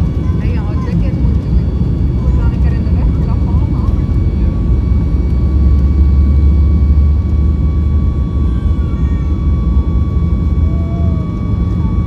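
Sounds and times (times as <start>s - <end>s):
constant high engine tones: 0.0s - 12.0s
jet engines roaring in cabin: 0.0s - 12.0s.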